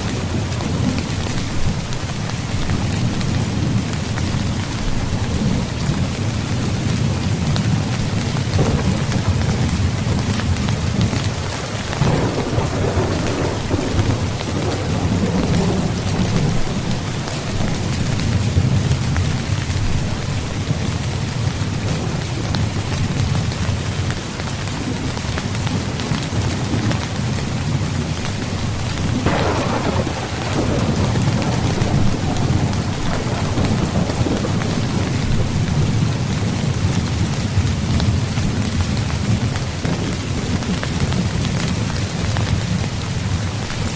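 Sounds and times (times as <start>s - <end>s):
thunder rumbling: 0.0s - 23.6s, 24.9s - 43.9s
rain pattering on a tent: 0.0s - 43.9s.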